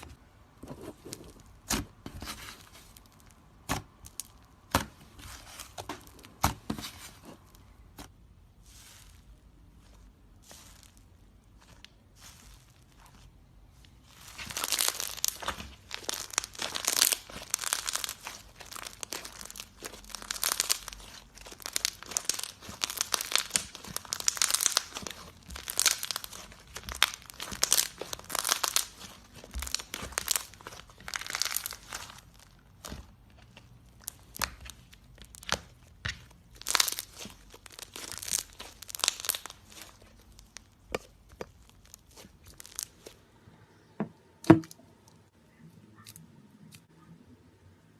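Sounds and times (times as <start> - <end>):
slime crackling and popping: 0.8 - 43.2.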